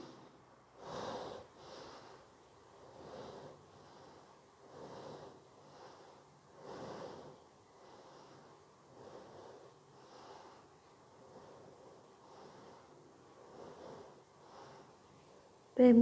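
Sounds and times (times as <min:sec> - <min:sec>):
woman breathing slowly: 0:00.0 - 0:15.8.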